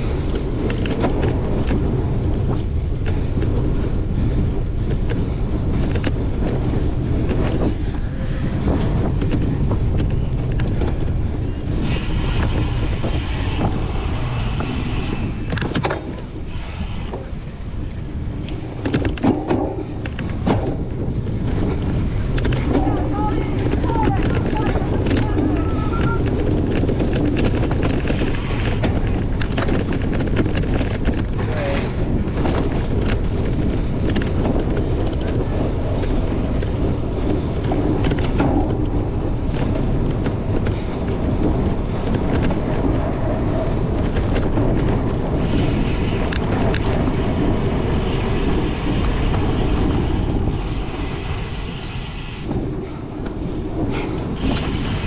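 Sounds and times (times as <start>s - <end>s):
bike rattling on rough ground: 0.0s - 55.0s
steady low rumble: 0.0s - 55.0s
wind buffeting microphone: 0.0s - 55.0s.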